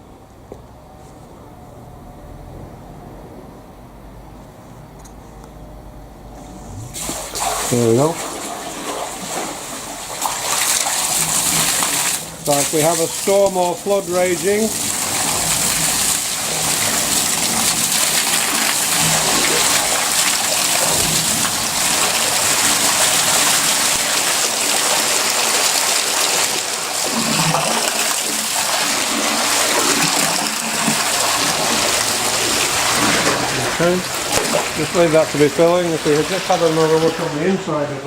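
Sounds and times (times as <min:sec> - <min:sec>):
water splashing against door: 0:07.0 - 0:37.8.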